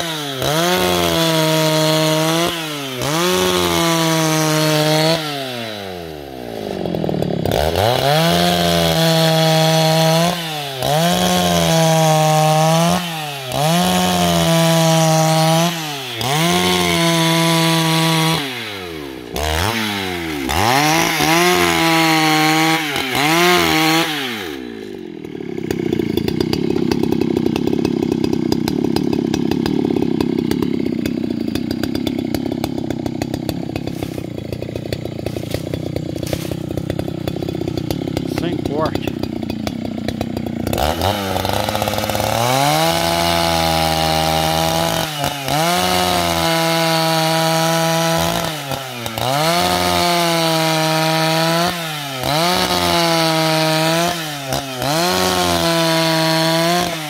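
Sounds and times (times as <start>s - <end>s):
chainsaw cutting timber: 0.0s - 57.0s.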